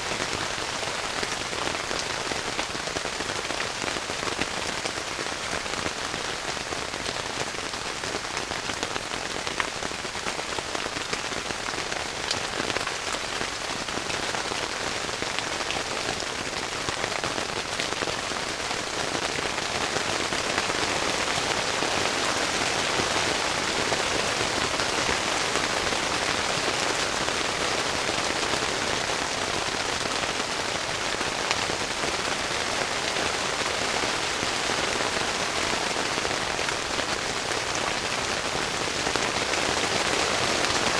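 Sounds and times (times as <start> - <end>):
heavy rain on a tent: 0.0 - 40.9.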